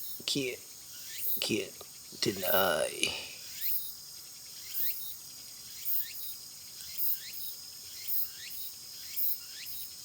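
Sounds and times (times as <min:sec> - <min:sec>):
crickets and insects chorus: 0:00.0 - 0:10.0.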